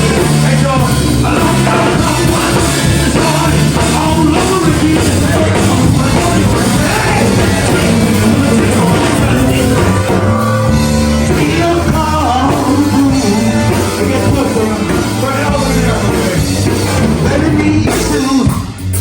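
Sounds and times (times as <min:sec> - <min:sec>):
guitar: 0:00.0 - 0:19.0
person singing: 0:00.0 - 0:19.0
rock band music: 0:00.0 - 0:19.0.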